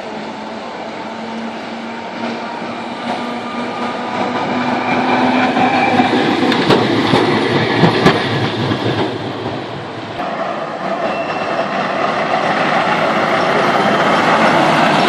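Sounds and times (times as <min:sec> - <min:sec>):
electric tram rumble: 0:00.0 - 0:15.0
wheels clacking over rail joints: 0:02.2 - 0:15.0.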